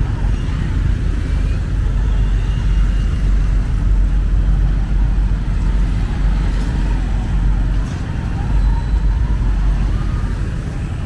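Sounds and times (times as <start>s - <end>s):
motorbikes passing: 0.0s - 11.0s
traffic rumble: 0.0s - 11.0s.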